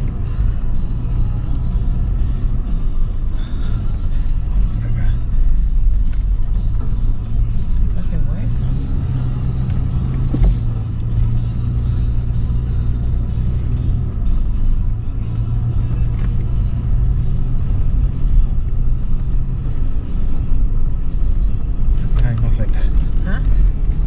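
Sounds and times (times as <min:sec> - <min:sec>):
car engine low drone: 0:00.0 - 0:24.0.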